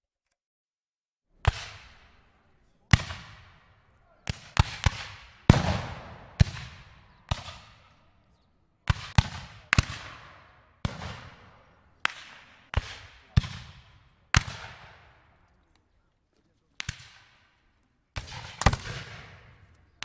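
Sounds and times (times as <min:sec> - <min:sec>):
rifle shots echoing: 0:01.4 - 0:08.3, 0:08.9 - 0:15.5, 0:16.8 - 0:20.0.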